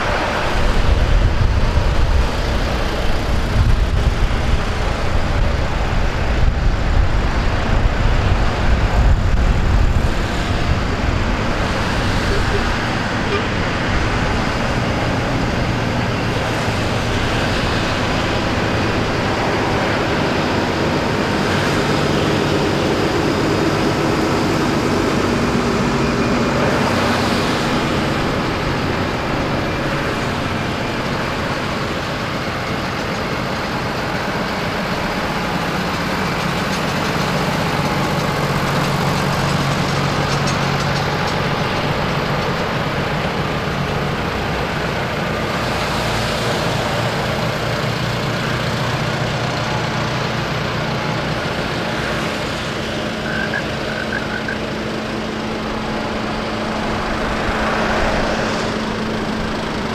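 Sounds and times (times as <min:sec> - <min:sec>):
tractor diesel engines running: 0:00.0 - 0:59.9
tyre noise on wet road: 0:00.0 - 0:59.9.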